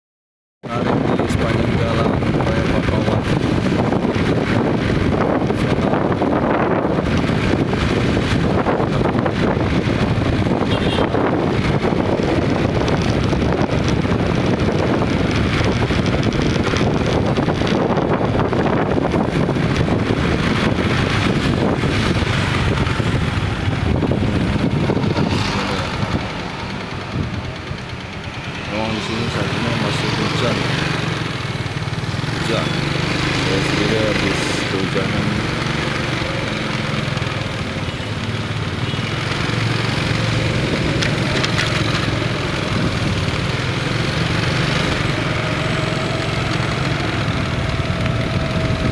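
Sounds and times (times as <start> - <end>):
road traffic rumble: 0.6 - 48.9
wind on microphone: 0.7 - 28.3, 29.4 - 48.9.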